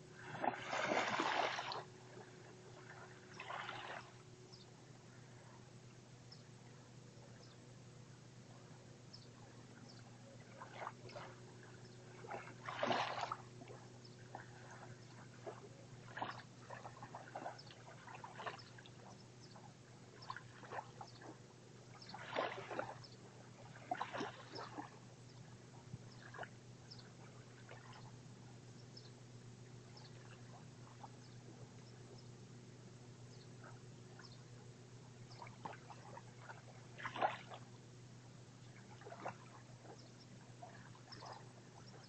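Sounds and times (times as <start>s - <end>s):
small waves lapping on shore: 0.0s - 5.6s, 8.5s - 28.6s, 29.4s - 32.2s, 33.6s - 42.0s
steady low hum: 0.0s - 42.0s.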